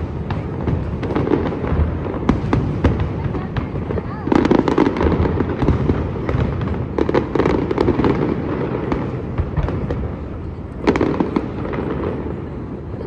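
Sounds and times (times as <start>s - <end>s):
continuous rumble: 0.0s - 13.0s
fireworks booms and crackles: 0.0s - 13.0s.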